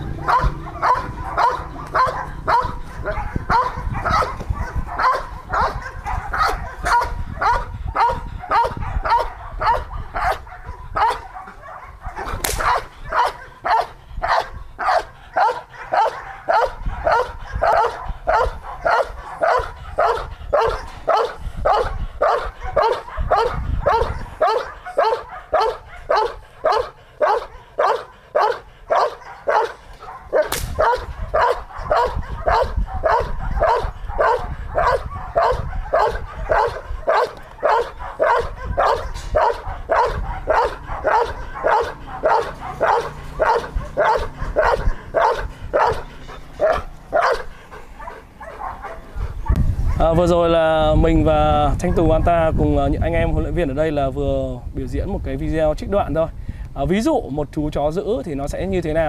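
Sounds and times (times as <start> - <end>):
dog barking aggressively: 0.0 - 50.1.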